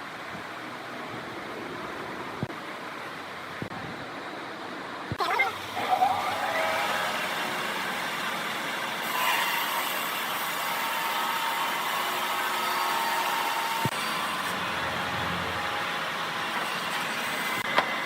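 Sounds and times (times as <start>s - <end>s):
machinery droning with faint whine: 0.1s - 18.0s.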